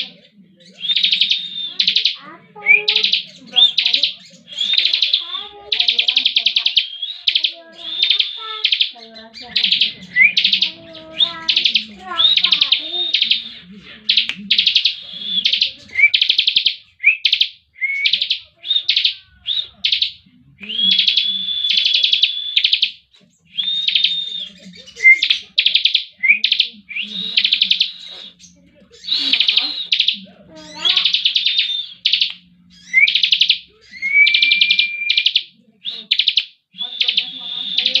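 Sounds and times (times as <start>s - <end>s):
bird buzzy trills: 0.0s - 35.4s.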